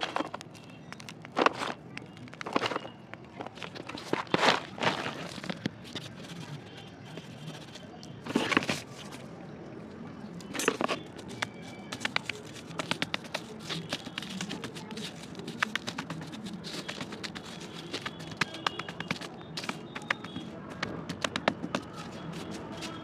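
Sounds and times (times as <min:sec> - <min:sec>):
stone grinding dry clay: 0:00.0 - 0:09.1, 0:10.5 - 0:23.0
clay crackling and crumbling: 0:00.0 - 0:09.3, 0:10.4 - 0:23.0.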